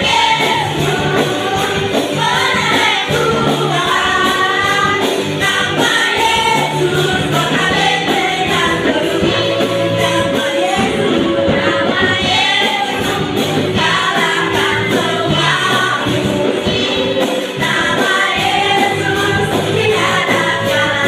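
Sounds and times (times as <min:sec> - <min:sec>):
bass guitar: 0:00.0 - 0:21.0
keyboard: 0:00.0 - 0:21.0
steady drum beat: 0:00.0 - 0:21.0
woman singing lead: 0:00.0 - 0:21.0.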